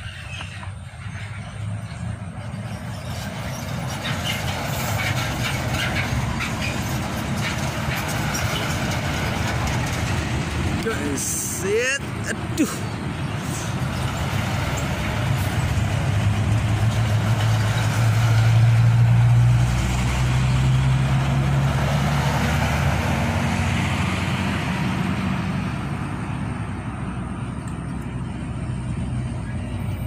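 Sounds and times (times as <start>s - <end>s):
road traffic engine drone: 0.0s - 30.0s.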